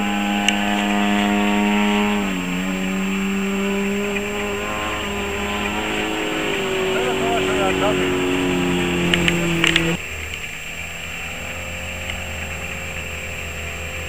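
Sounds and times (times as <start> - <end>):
airplane engine and propeller: 0.0 - 14.0.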